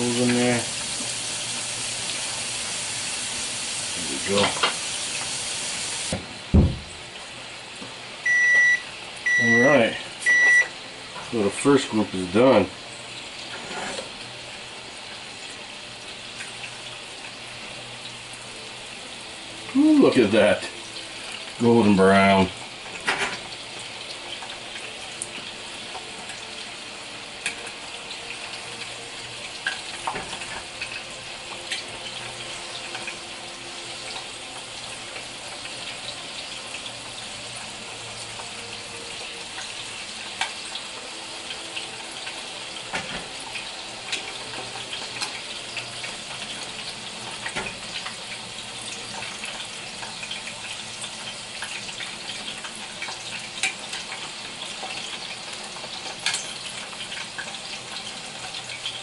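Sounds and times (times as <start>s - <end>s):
fish frying in oil: 0.0s - 59.0s.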